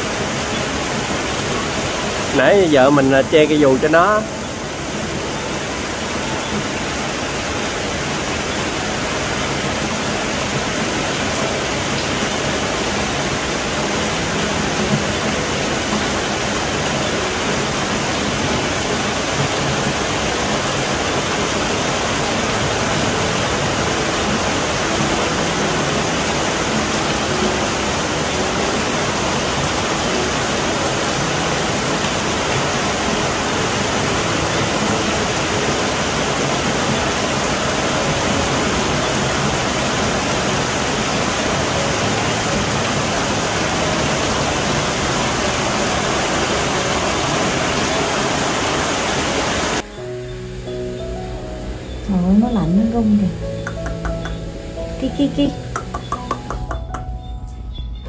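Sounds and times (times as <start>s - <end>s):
heavy rain pouring: 0.0s - 57.8s.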